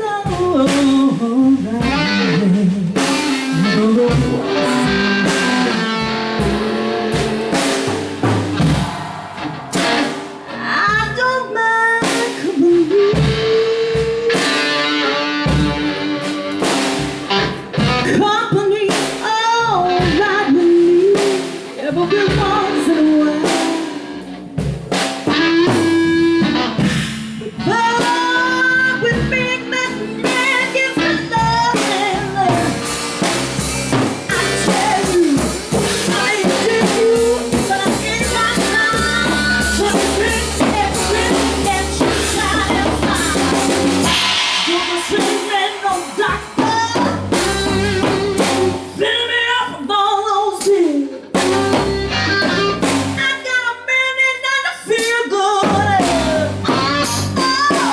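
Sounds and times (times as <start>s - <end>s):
drum kit playing: 0.0s - 49.8s, 50.6s - 53.4s, 55.0s - 57.9s
guitar playing: 1.2s - 49.5s, 51.1s - 53.4s, 55.6s - 57.9s.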